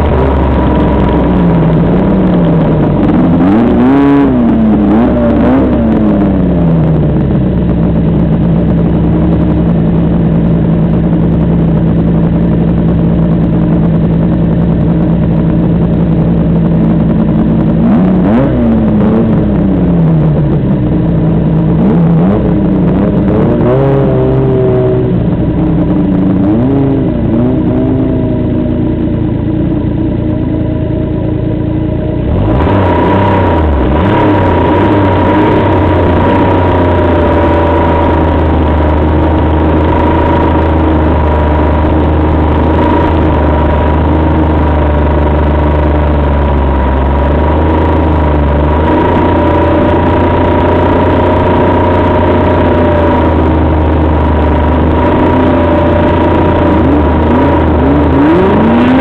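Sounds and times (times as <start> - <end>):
snowmobile engine running: 0.0 - 59.0
steady higher whine: 0.0 - 59.0.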